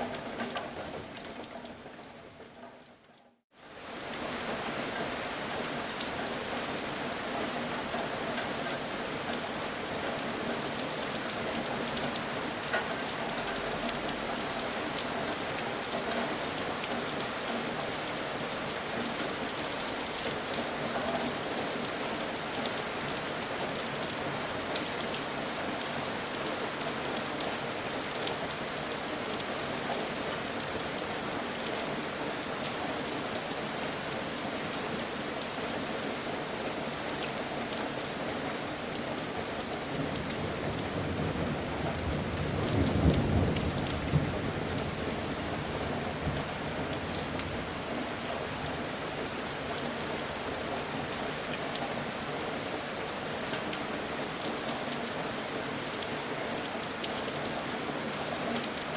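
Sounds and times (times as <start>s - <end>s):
steady rain hiss: 3.4s - 58.9s.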